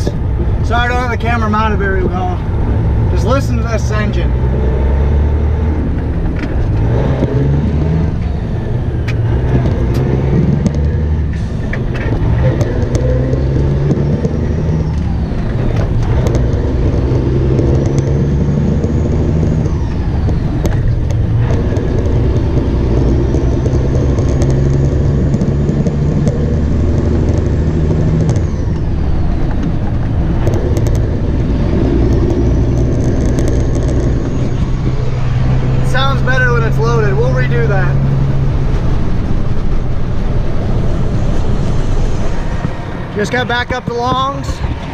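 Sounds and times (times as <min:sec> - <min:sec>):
truck diesel engine under load: 0:00.0 - 0:44.9.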